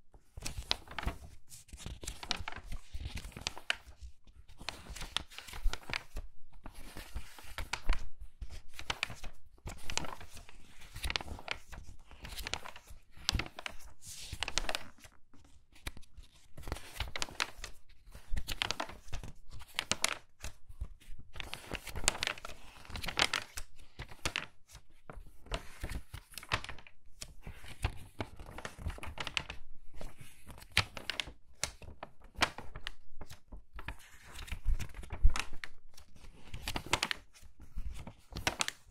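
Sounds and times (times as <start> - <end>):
magazine pages turning: 0.3 - 15.1, 15.7 - 38.8.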